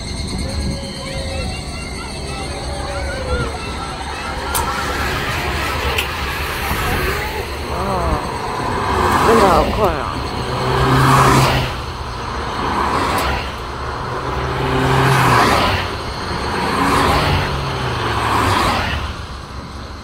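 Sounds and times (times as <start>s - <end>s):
cars passing by: 0.0s - 20.0s.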